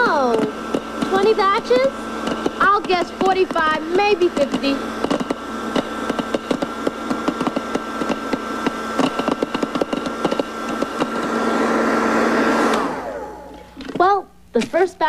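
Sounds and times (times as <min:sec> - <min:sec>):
popcorn kernels popping: 0:00.0 - 0:15.0
popcorn popper motor whine: 0:00.0 - 0:15.0.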